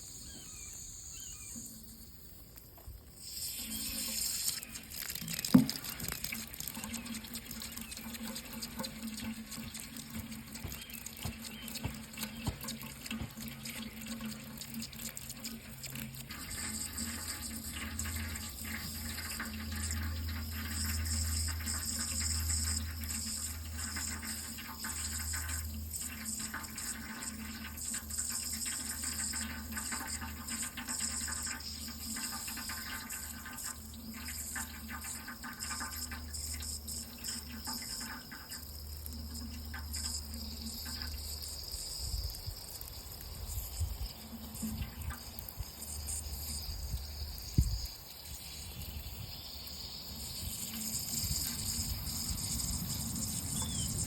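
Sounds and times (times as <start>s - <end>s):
tap water running into sink: 2.8s - 54.0s.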